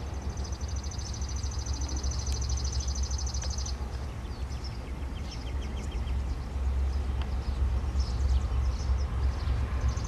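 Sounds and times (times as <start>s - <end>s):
diesel freight train rumbling: 0.0s - 10.0s
songbird trilling: 0.0s - 10.0s.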